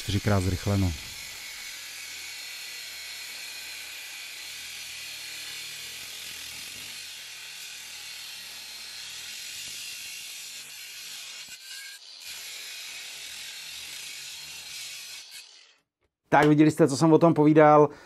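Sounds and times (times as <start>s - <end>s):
angle grinder cutting steel tubing: 0.0s - 15.9s.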